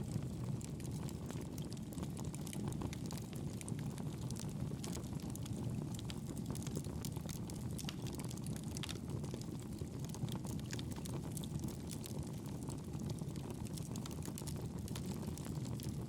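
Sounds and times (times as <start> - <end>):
rumble of flames: 0.0 - 16.0
wood crackling and popping: 0.0 - 16.0.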